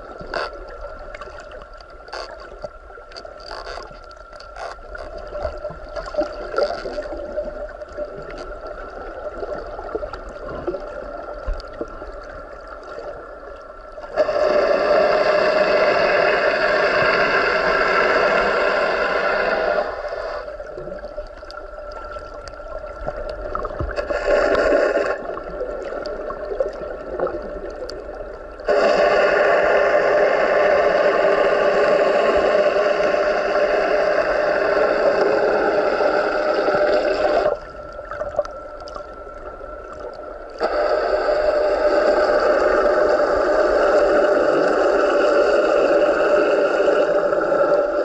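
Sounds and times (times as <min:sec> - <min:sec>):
boat motor heard underwater: 0:00.0 - 0:48.0.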